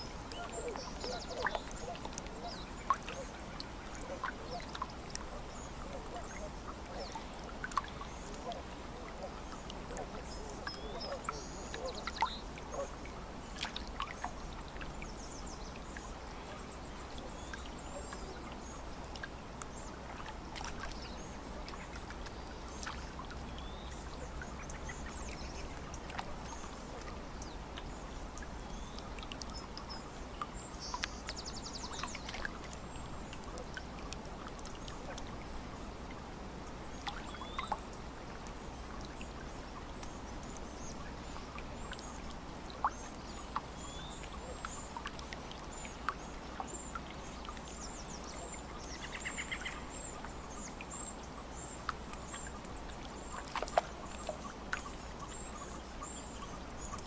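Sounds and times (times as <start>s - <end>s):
small splashes: 0.0s - 15.4s, 16.4s - 50.9s, 51.8s - 57.0s
songbirds chirping: 0.0s - 57.0s
water lapping: 0.0s - 57.0s.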